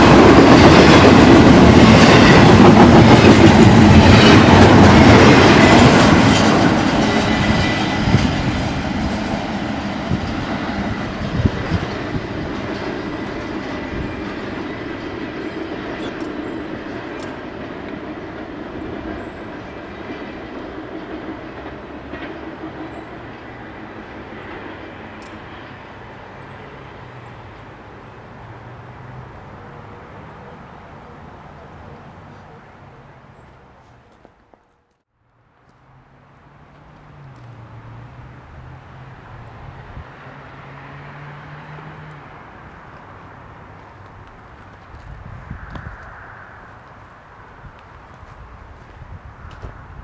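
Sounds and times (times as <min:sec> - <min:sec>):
diesel locomotive engine drone: 0:00.0 - 0:50.0
train wheel-on-rail noise: 0:00.0 - 0:50.0.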